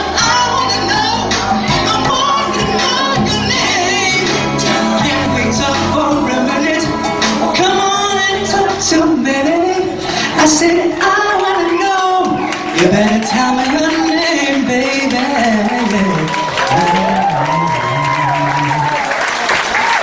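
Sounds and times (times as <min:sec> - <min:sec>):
man singing: 0:00.0 - 0:19.1
backing music: 0:00.0 - 0:19.6.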